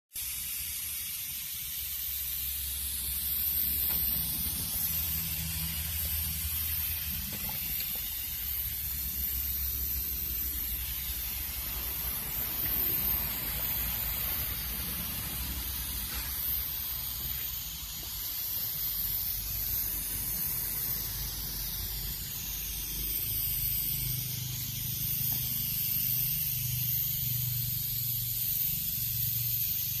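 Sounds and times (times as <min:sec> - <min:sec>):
strong steady hiss: 0:00.1 - 0:30.0
diesel engine running: 0:02.2 - 0:29.6.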